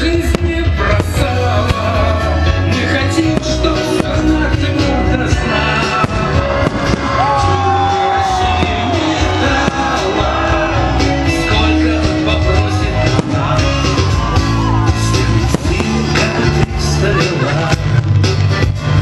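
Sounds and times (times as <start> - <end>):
fireworks bursting: 0.0 - 19.0
loud music with singing: 0.0 - 19.0.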